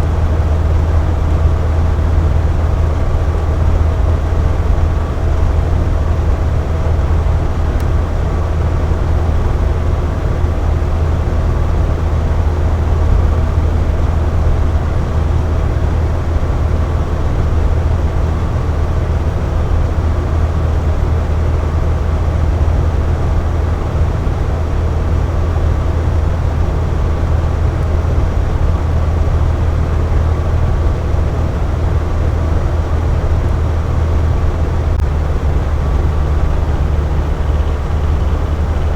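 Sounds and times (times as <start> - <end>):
faint motor hum: 0.0 - 38.9.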